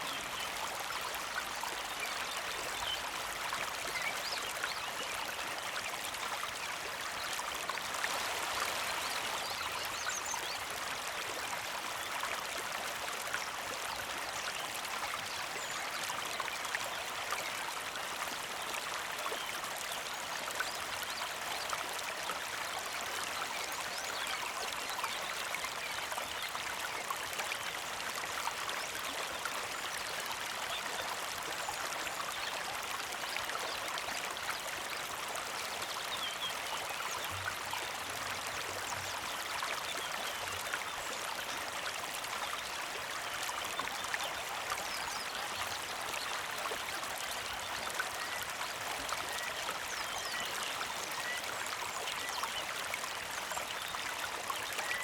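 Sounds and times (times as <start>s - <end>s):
creek babbling over rocks: 0.0s - 55.0s.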